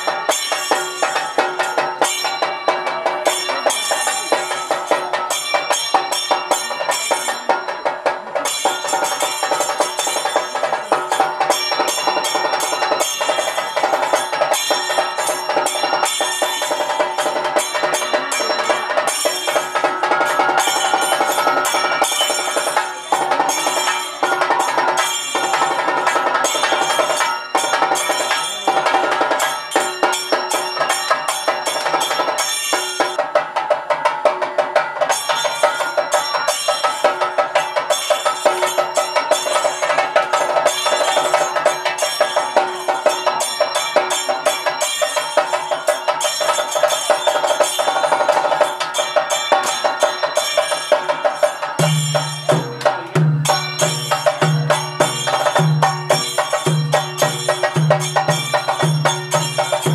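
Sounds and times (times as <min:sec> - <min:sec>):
rapid drumming: 0:00.0 - 0:59.9
ringing bells: 0:00.0 - 0:59.9.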